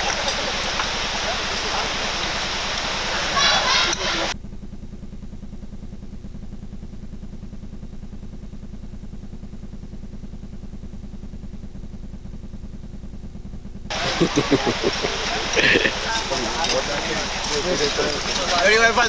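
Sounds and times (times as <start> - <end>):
low engine throb: 0.0 - 19.0.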